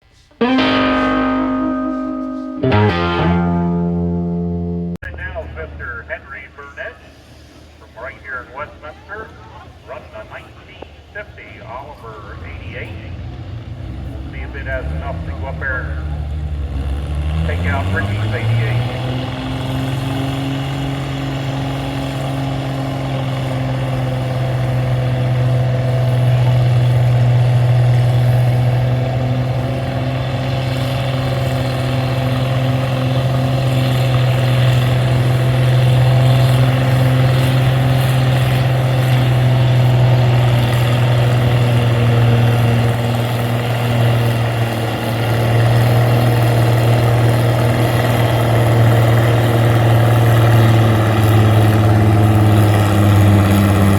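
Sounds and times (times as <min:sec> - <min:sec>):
tractor engine running hard: 0:05.1 - 0:53.9.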